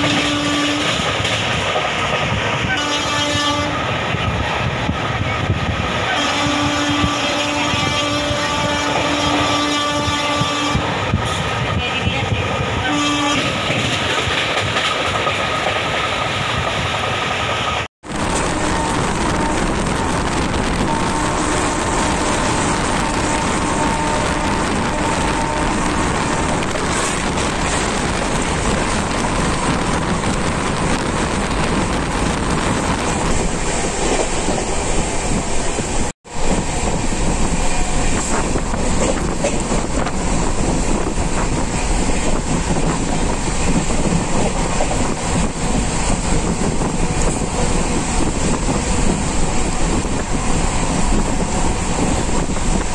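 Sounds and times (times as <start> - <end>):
wind and rail noise: 0.0 - 52.9.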